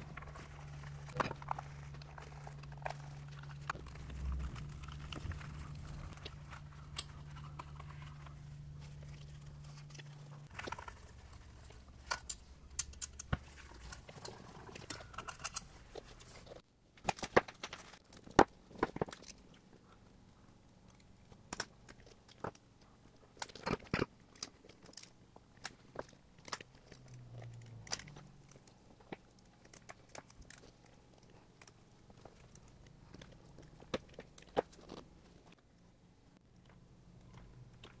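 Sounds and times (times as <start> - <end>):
wires and fingers rustling: 0.0 - 38.0.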